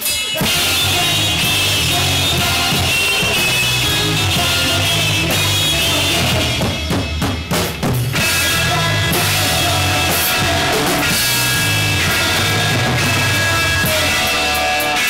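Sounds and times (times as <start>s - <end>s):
live band playing loud: 0.0s - 15.0s
drum hits: 0.4s - 14.7s.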